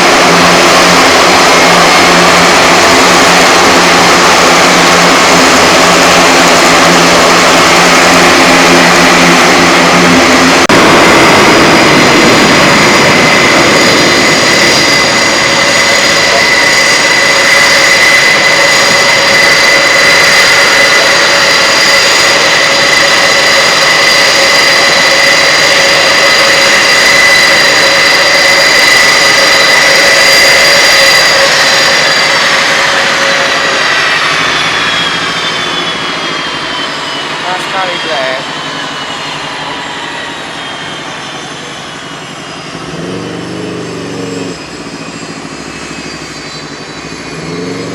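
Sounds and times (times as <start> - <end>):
propeller hum: 0.0 - 47.9
turbine whine: 0.0 - 47.9.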